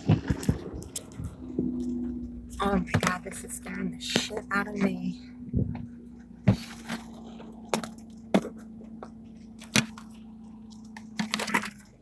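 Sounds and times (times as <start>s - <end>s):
car low hum: 0.0s - 12.0s.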